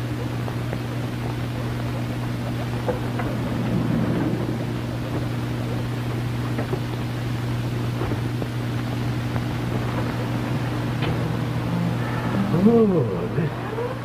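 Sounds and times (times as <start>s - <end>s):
film soundtrack hum and hiss: 0.0s - 14.0s.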